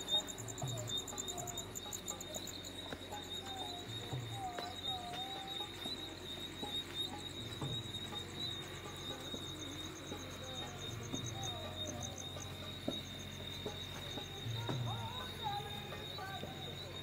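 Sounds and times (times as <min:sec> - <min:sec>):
faint music: 0:00.0 - 0:17.0
faint voices: 0:00.0 - 0:17.0
insect pulsing chirp: 0:00.0 - 0:17.0
insect steady high trill: 0:00.0 - 0:17.0.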